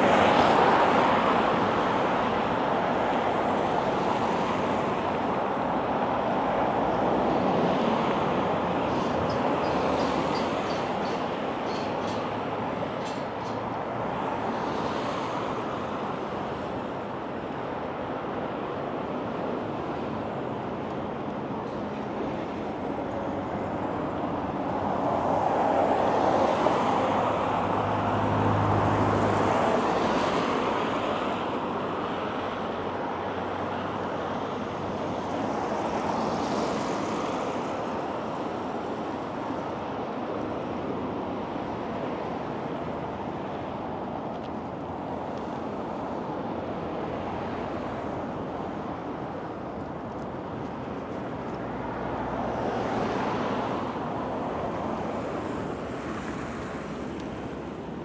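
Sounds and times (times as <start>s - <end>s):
road traffic noise: 0.0s - 58.0s.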